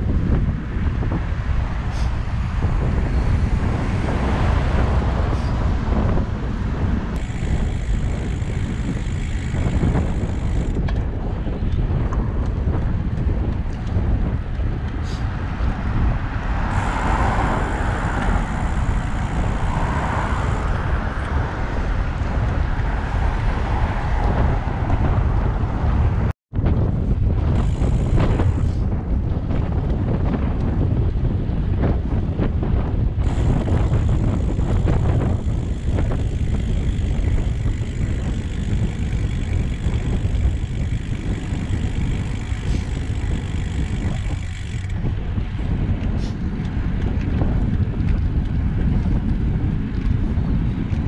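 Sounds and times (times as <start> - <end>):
road and traffic noise: 0.0 - 51.0
wind rumbling over microphone: 0.0 - 51.0.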